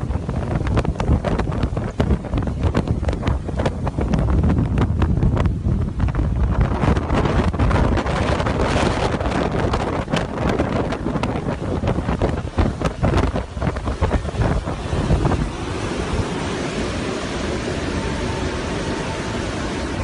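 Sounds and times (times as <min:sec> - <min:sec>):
rushing floodwater: 0:00.0 - 0:20.0
wind buffeting microphone: 0:00.0 - 0:20.0.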